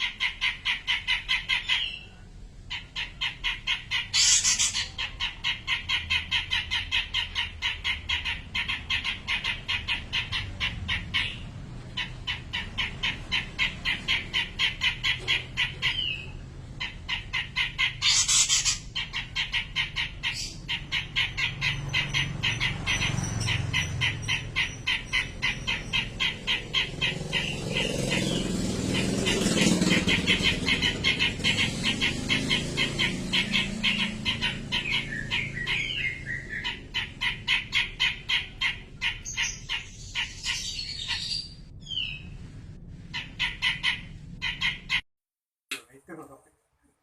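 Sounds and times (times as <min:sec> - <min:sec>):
songbird calling: 0:00.0 - 0:42.4.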